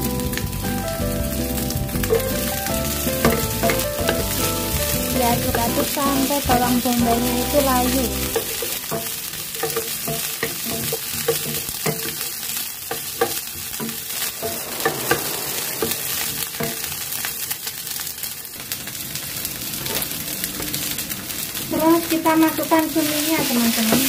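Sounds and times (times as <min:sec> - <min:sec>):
onion sizzling in hot oil: 0:00.0 - 0:24.0.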